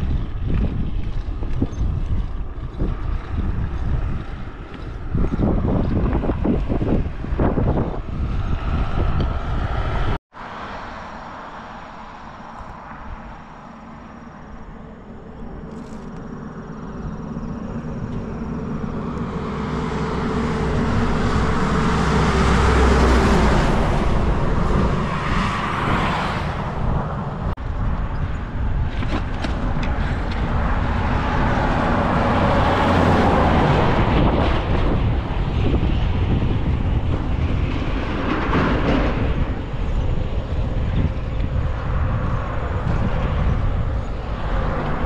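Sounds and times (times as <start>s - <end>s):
vehicles passing on highway: 0.0s - 45.0s.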